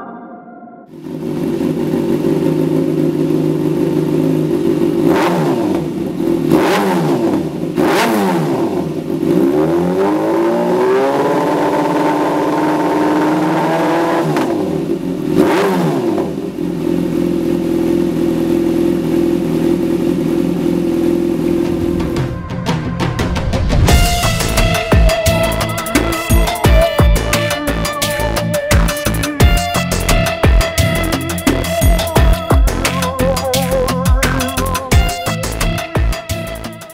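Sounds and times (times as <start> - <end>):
motorcycle engine idling and revving: 0.9 - 36.9.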